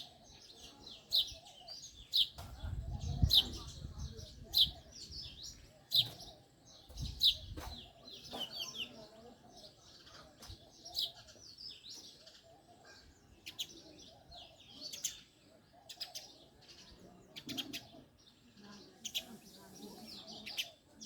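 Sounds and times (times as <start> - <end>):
sparrows chirping: 0.0 - 21.0.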